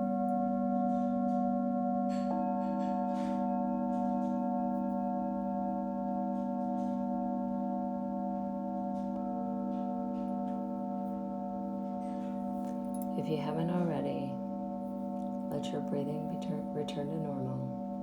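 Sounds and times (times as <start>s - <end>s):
singing bowls drone: 0.0s - 18.0s.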